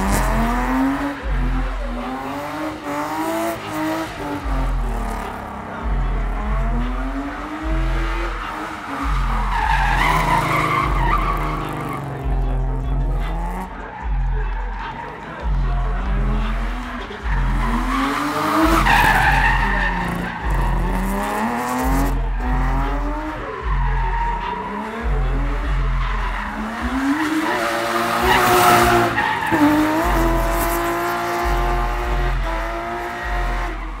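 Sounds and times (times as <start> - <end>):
car engine revving: 0.0 - 34.0
tyres skidding and squealing: 0.0 - 34.0.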